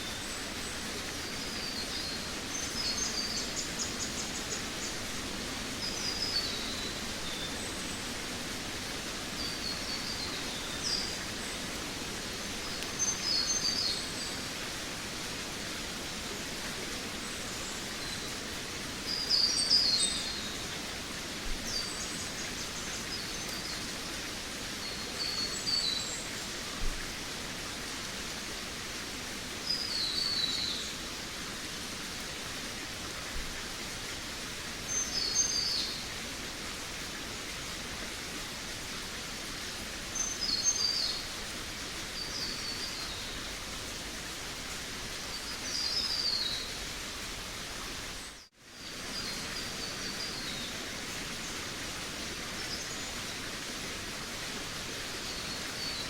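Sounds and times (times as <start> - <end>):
rushing background hiss: 0.0 - 56.0.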